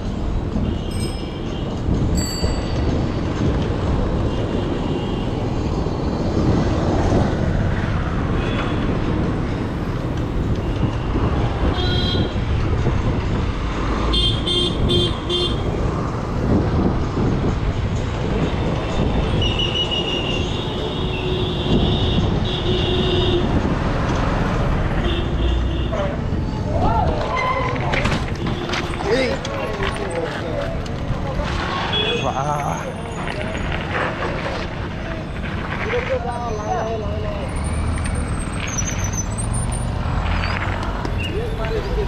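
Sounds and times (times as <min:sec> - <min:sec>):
bicycle road rumble: 0:00.0 - 0:42.0
wind: 0:00.0 - 0:42.0.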